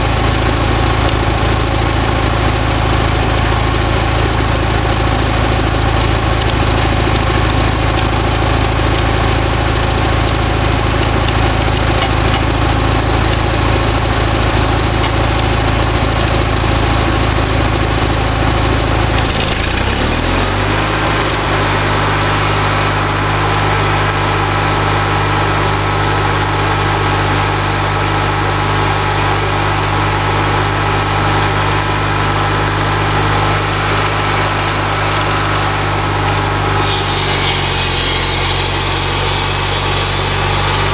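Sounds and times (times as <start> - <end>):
lawnmower engine running: 0.0 - 40.9.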